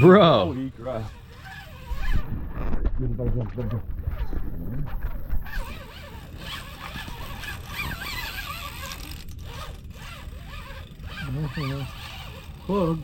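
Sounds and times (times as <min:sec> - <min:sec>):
fishing reel drag buzzing: 0:00.0 - 0:02.7, 0:04.1 - 0:13.0.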